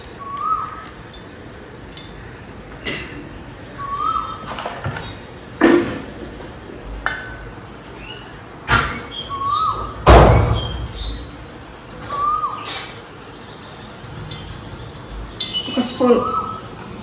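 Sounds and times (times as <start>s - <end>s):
birds calling with whistled notes: 0.0s - 2.4s, 3.5s - 5.5s, 7.2s - 17.0s.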